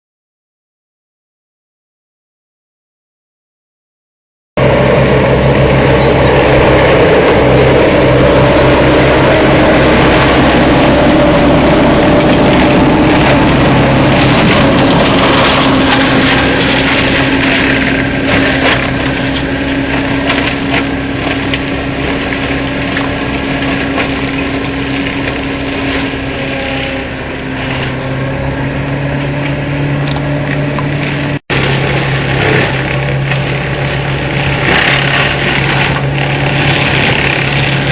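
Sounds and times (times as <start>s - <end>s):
diesel engine under load: 4.6s - 37.9s
mulcher shredding wood: 4.6s - 37.9s
steady machine whine: 4.6s - 37.9s.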